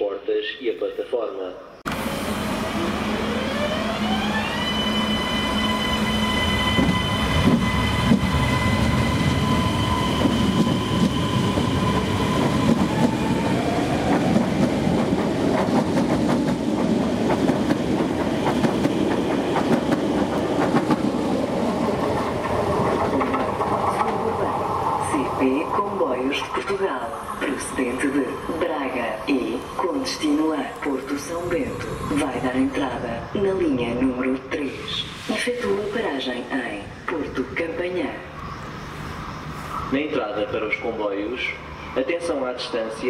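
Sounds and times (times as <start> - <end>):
electric train traction whine: 1.9 - 43.0.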